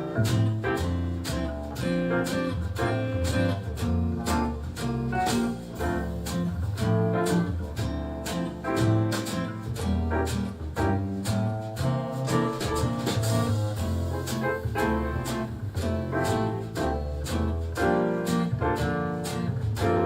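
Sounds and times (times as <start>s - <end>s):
instrumental music with plucked guitar: 0.0s - 20.0s.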